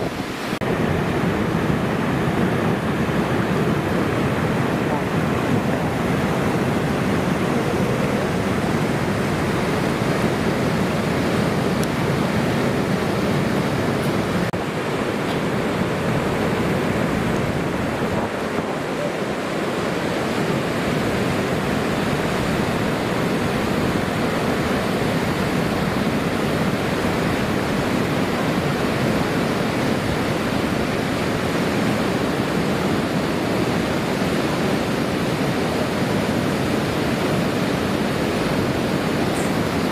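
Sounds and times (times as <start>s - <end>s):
river rushing in flood: 0.0s - 39.9s.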